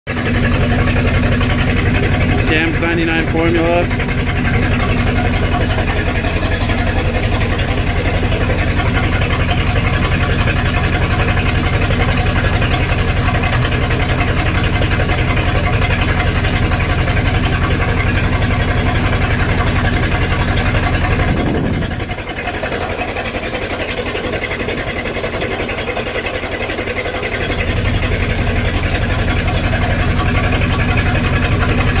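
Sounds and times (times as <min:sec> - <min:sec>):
boat engine misfiring: 0:00.1 - 0:32.0.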